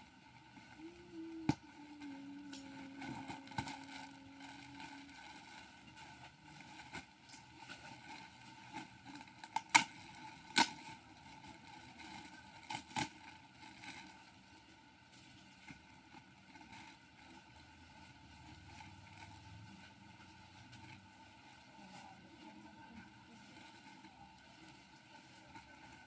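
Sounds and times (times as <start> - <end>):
plastic packaging rustling: 0.3 - 26.0.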